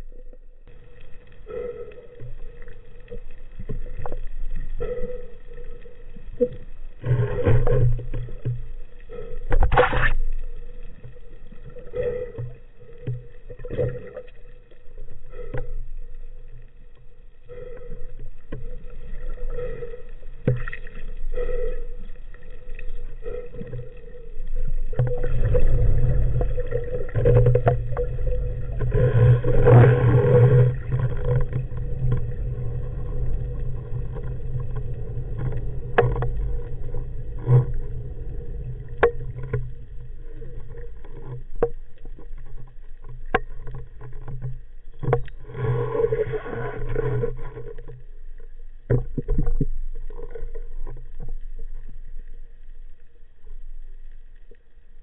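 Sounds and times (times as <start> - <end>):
underwater water noise: 0.0 - 55.0.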